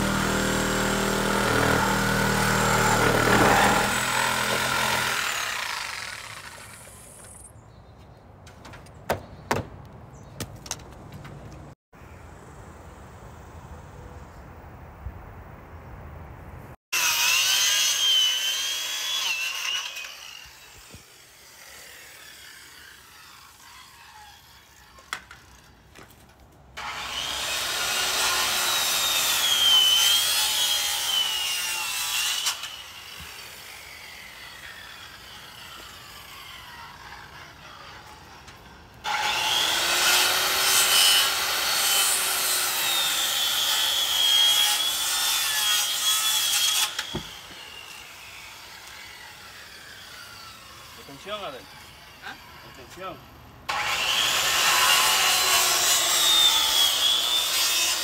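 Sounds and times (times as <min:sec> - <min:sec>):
circular saw cutting wood: 0:00.0 - 0:07.5, 0:16.9 - 0:25.7, 0:26.8 - 0:58.0.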